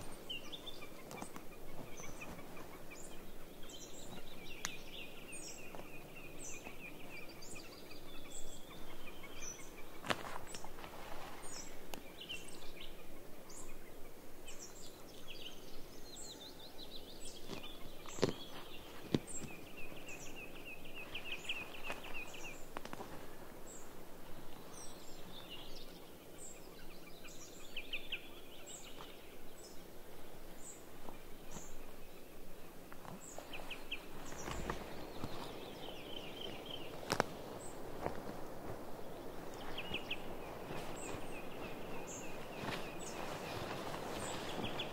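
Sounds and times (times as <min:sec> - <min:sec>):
birds singing: 0:00.0 - 0:44.9.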